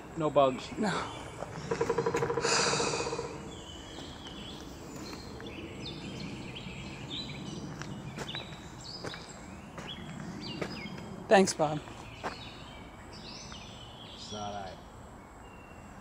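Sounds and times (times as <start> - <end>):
steady outdoor hiss: 0.0 - 16.0
wild birds chirping: 0.0 - 16.0.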